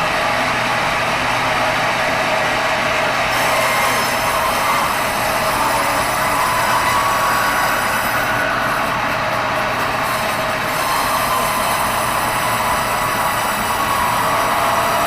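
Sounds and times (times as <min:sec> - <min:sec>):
band saw cutting timber: 0:00.0 - 0:15.0.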